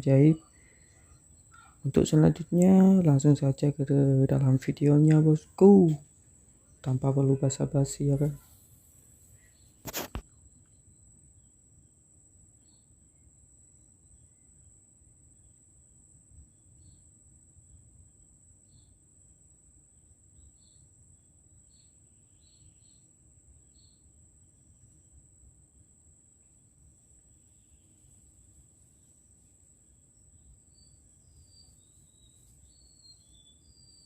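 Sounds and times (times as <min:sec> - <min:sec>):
insect chirps: 0:00.0 - 0:34.0.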